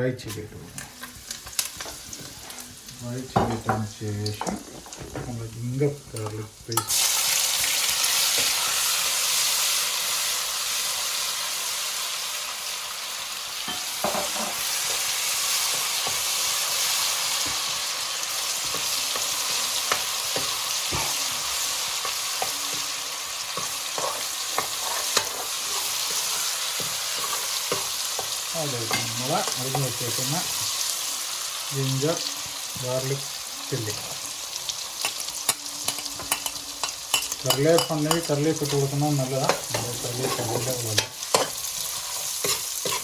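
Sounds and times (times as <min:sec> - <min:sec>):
sizzling in hot oil: 0:00.2 - 0:43.0.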